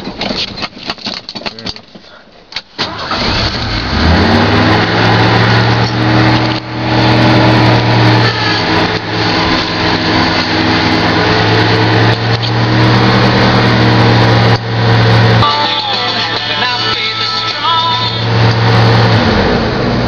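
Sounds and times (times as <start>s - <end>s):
truck engine idling: 1.9s - 20.0s.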